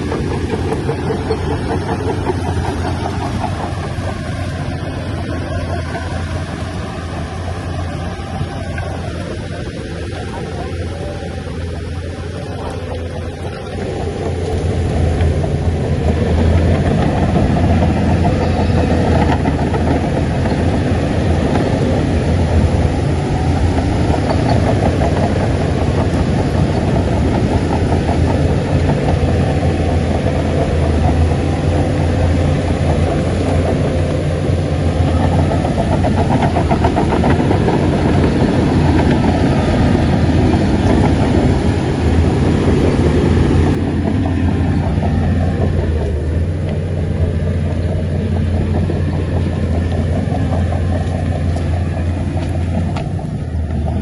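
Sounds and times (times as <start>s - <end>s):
bulldozer diesel engine: 0.0s - 54.0s
tracks clattering: 0.0s - 54.0s.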